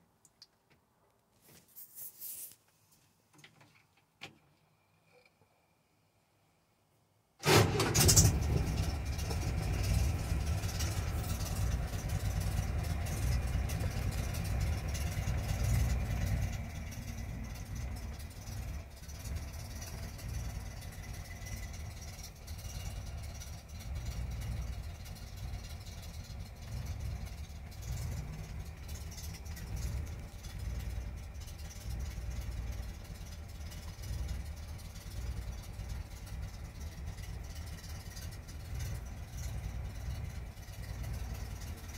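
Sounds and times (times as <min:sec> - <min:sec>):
car engine starting and idling: 0:07.4 - 0:41.9.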